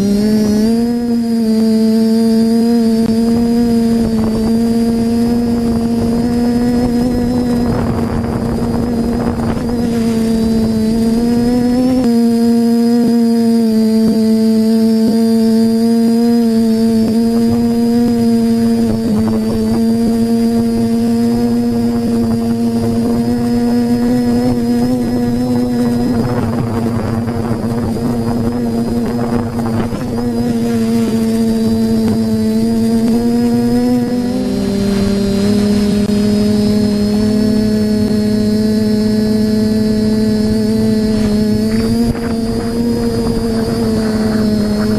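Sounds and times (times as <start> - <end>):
drone propellers buzzing: 0.0 - 44.9.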